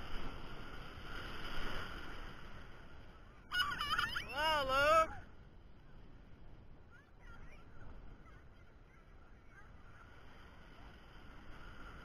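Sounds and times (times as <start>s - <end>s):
faint muffled surf: 0.0s - 12.0s.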